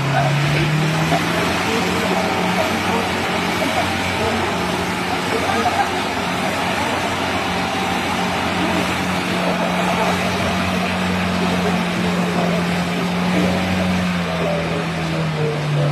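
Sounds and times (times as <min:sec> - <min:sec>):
car engine running: 0:00.0 - 0:15.9.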